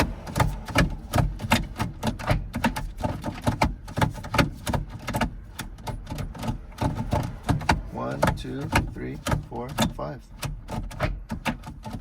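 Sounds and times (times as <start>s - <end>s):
gear shifter clicks and clunks: 0.0s - 12.0s.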